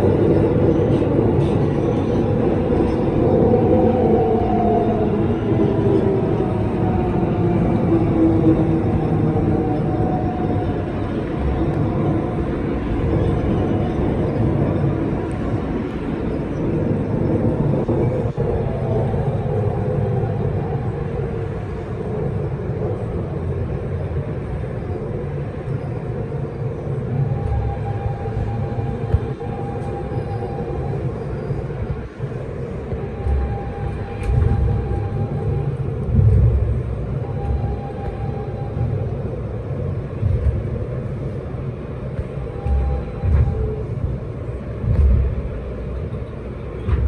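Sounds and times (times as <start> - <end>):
faint whining tones: 0.0 - 47.0
subway train wheels rumbling on rail: 0.0 - 47.0.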